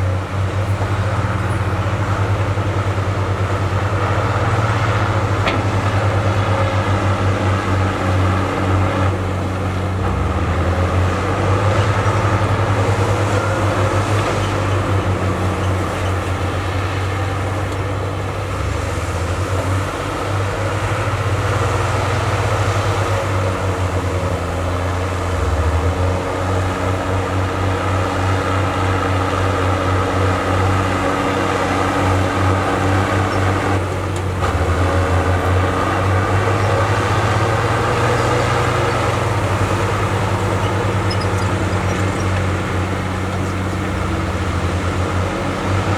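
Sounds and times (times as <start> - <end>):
heavy diesel machinery drone: 0.0 - 45.9.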